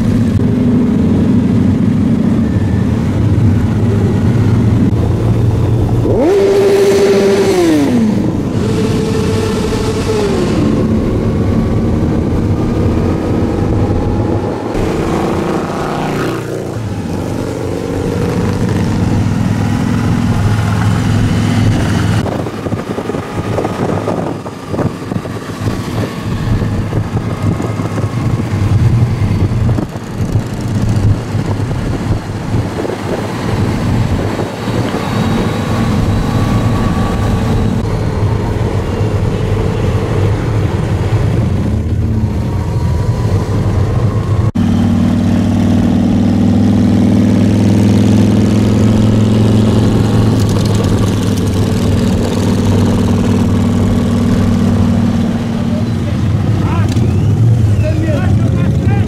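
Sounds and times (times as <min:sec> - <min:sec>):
motorcycle engines droning: 0:00.0 - 0:59.0.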